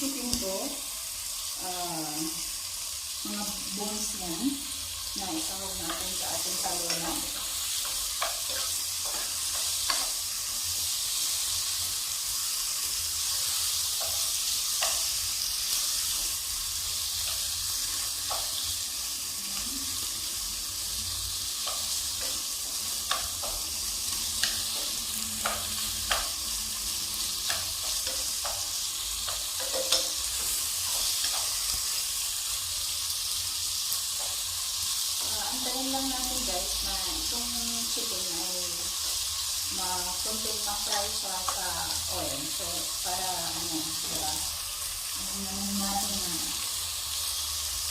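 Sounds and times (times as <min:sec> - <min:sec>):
chicken sizzling in hot oil: 0:00.0 - 0:47.9.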